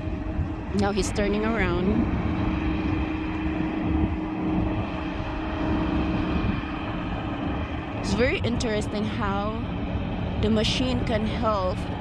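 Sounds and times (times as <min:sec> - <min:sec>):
harvester engine droning: 0:00.0 - 0:12.0.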